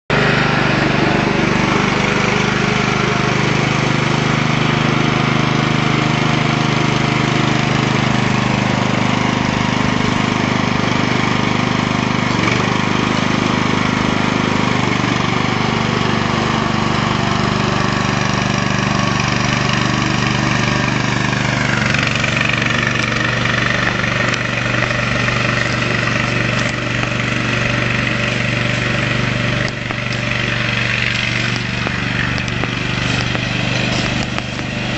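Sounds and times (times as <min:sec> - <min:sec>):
lawnmower engine running: 0:00.1 - 0:34.9.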